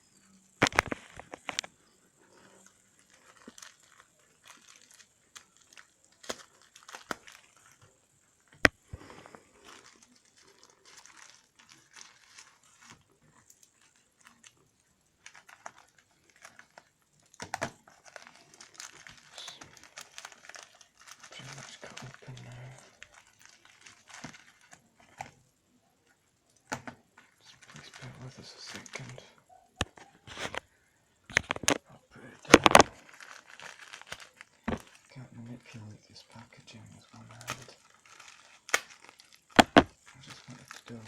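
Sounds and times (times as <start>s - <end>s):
plastic packaging crinkling: 0.2s - 25.6s, 26.6s - 41.0s.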